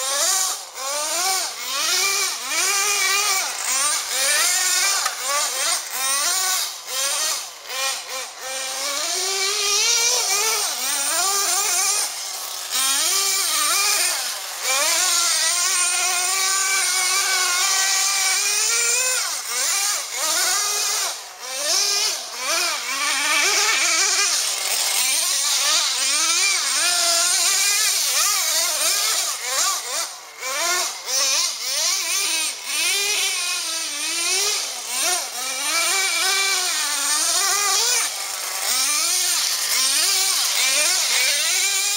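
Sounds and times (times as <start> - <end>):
model truck engine revving: 0.0 - 41.9.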